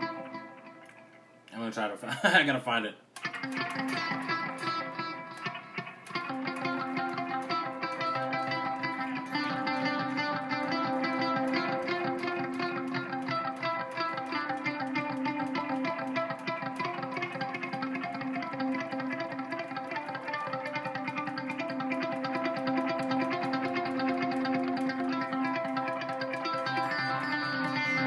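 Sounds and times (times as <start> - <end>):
electric guitar rapid picked notes: 0.0 - 1.9, 3.2 - 28.0.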